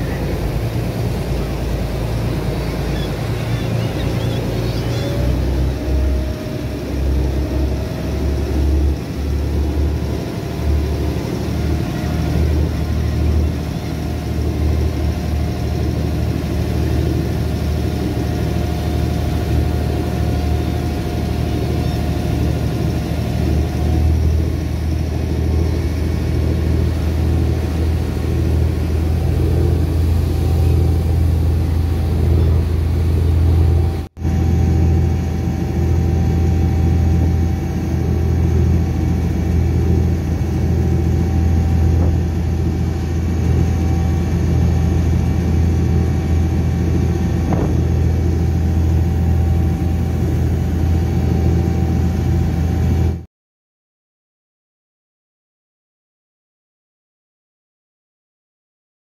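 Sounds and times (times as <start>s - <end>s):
wind and water noise: 0.0s - 53.2s
boat engine rumble: 0.0s - 53.3s.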